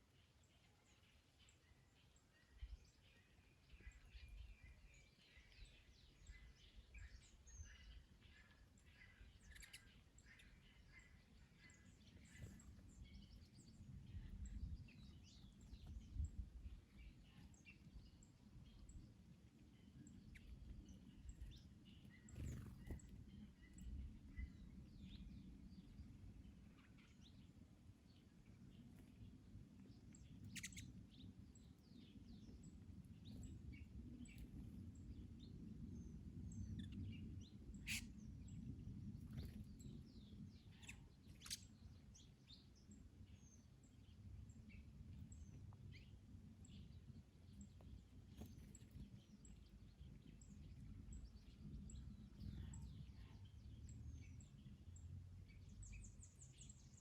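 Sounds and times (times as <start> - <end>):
low rumble of wind: 0.0 - 57.0
small birds chirping: 0.0 - 57.0.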